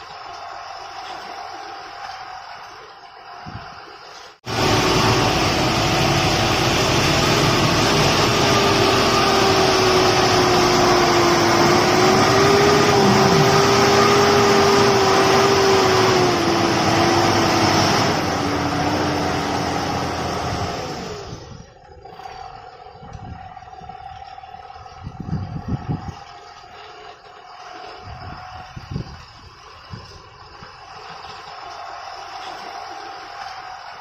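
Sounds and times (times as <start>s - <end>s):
vehicle engine running: 4.4s - 34.0s.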